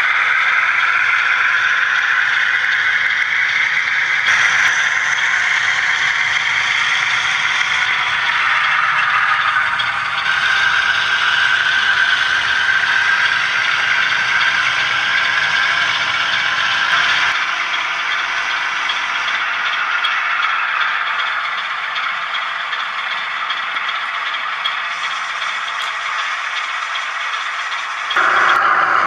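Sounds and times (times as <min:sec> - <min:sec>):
model train rattling on track: 0:00.0 - 0:29.0.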